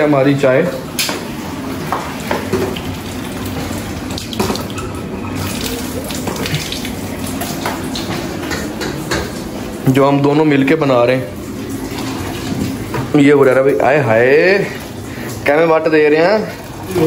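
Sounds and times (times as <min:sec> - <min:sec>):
kitchen tap running: 0:00.0 - 0:17.0.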